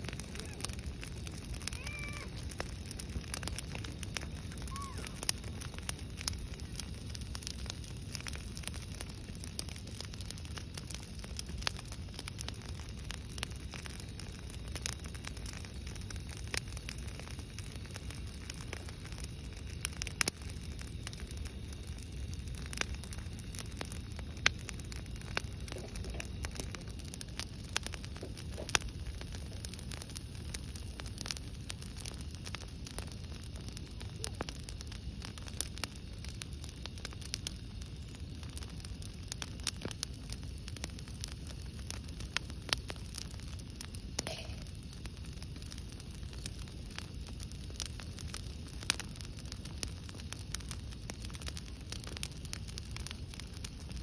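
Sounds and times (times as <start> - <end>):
campfire crackling and popping: 0.0 - 54.0
fire low rumble: 0.0 - 54.0.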